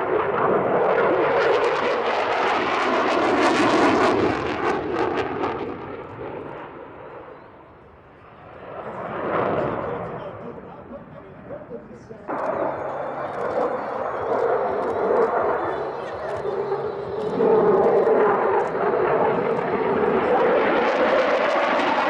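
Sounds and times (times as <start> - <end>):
fighter jet roar with crackling: 0.0 - 22.0.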